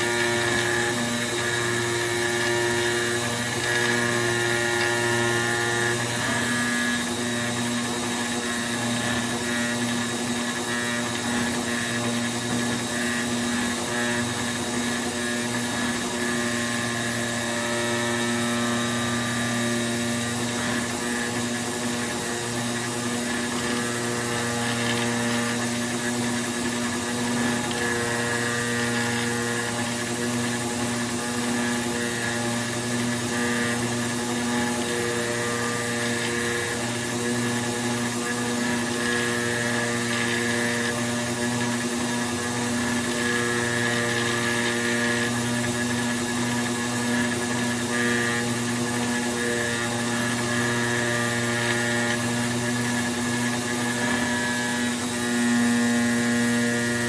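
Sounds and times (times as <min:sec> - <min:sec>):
machine hum: 0:00.0 - 0:57.0
router spindle milling cardboard: 0:00.0 - 0:57.0.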